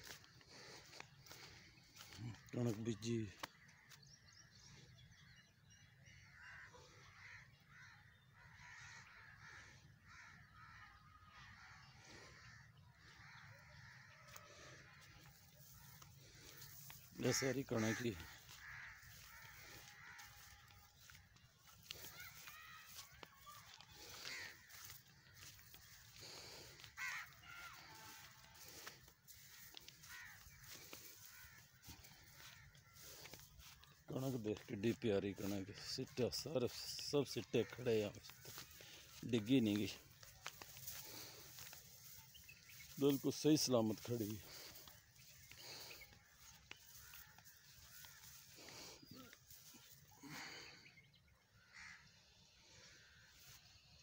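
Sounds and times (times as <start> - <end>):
faint bird calls: 0.0 - 54.0
faint outdoor background: 0.0 - 54.0.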